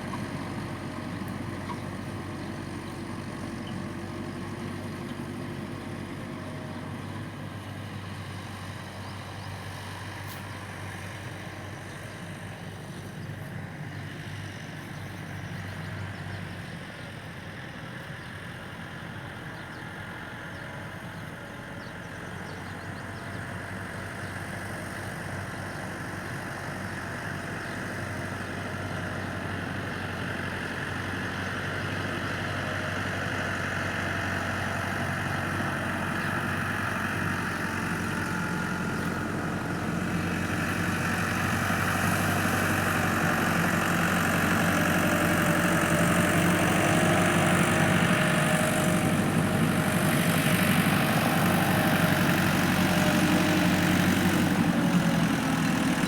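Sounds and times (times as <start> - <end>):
engine idling with low hum: 0.0 - 56.0.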